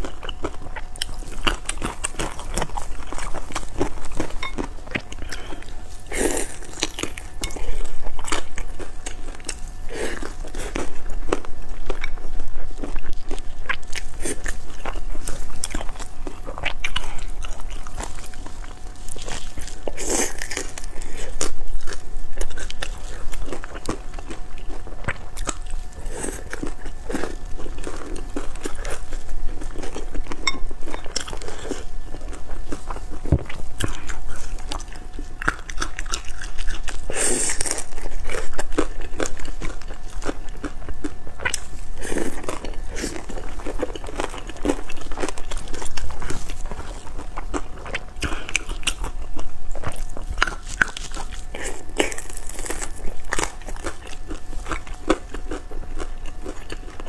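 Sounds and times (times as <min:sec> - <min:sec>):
biting and chewing dumplings: 0:00.0 - 0:57.0.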